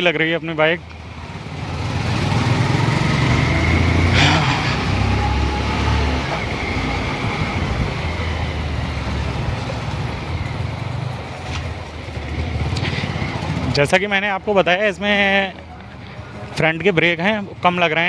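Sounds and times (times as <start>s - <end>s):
motorcycle engine running: 0.8s - 16.5s.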